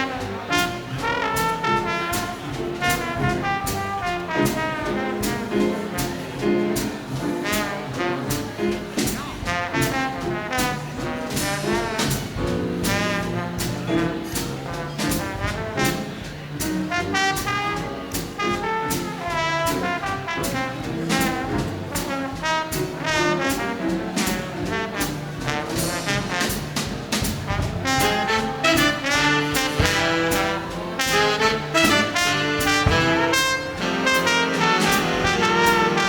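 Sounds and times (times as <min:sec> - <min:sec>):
slide trombone solo: 0:00.0 - 0:06.3, 0:07.4 - 0:08.6, 0:09.4 - 0:36.0
brass backing figures: 0:00.0 - 0:36.0
swing drums and rhythm section: 0:00.0 - 0:36.0.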